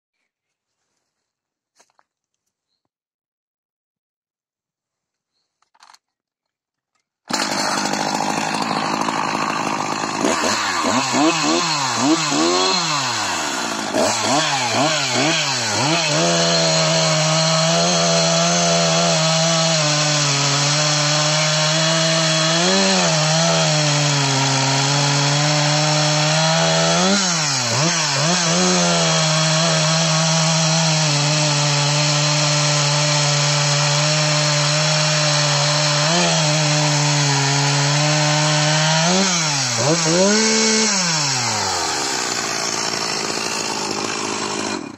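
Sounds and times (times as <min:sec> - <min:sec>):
chainsaw cutting log: 0:07.2 - 0:44.9.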